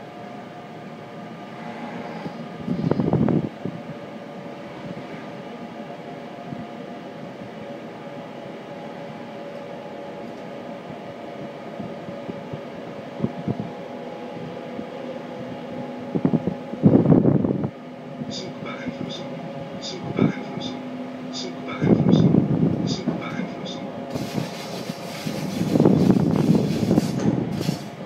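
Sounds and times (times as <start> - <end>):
train carriage running hum: 0.0 - 28.0.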